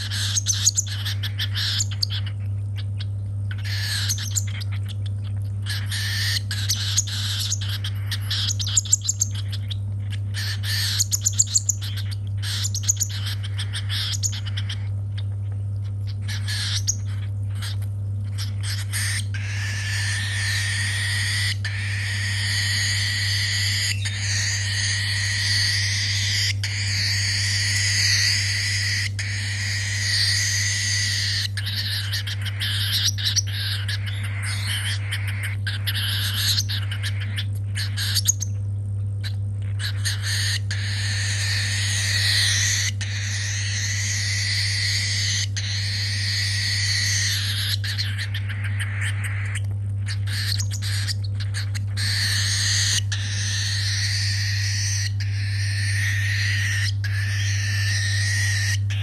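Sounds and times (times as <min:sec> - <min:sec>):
bird chick begging calls: 0:00.0 - 0:14.9, 0:16.0 - 0:38.5, 0:39.2 - 0:59.0
steady low hum: 0:00.0 - 0:59.0.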